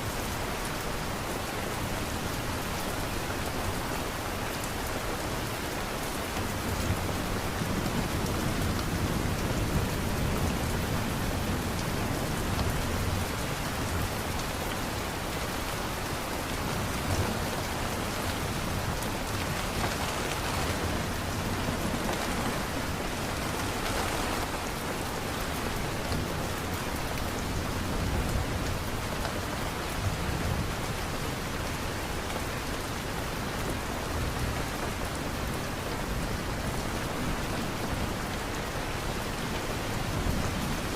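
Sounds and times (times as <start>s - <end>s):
dense rain falling: 0.0s - 40.9s.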